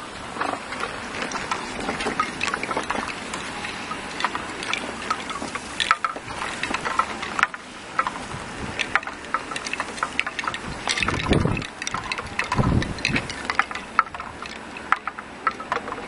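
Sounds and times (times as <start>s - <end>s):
blizzard wind blowing hard: 0.0s - 14.5s
small irregular ticks: 0.4s - 16.0s.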